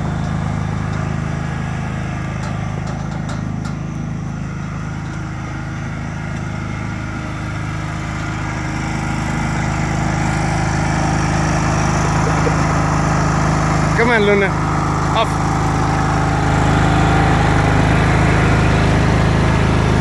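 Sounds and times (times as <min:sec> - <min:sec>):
lawn tractor engine running: 0:00.0 - 0:20.0.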